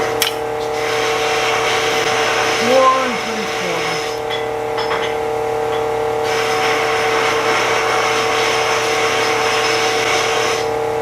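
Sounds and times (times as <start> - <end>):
power tool motor whine: 0.0 - 4.3, 6.2 - 11.0.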